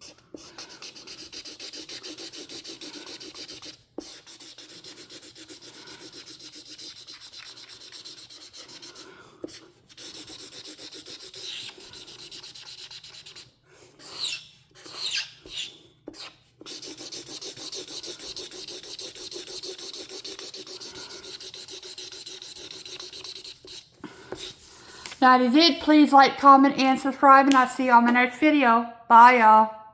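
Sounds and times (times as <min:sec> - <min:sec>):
marker scribbling on paper: 0:00.0 - 0:26.2.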